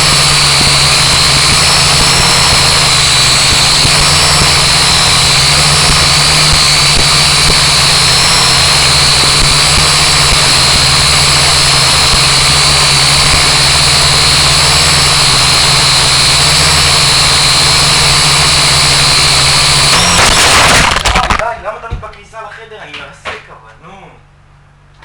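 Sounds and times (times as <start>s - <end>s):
quadcopter motors whining: 0.0s - 21.4s.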